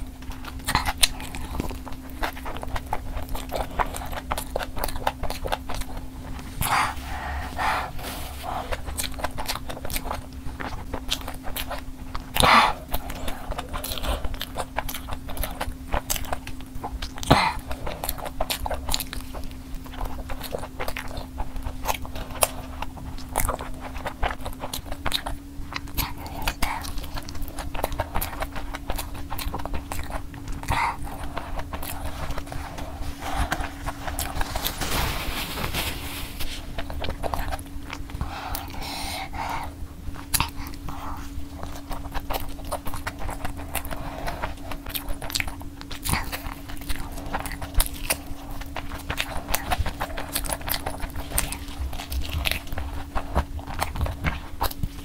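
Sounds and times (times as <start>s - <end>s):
crunchy chewing: 0.0s - 55.0s
steady low hum: 0.0s - 55.0s.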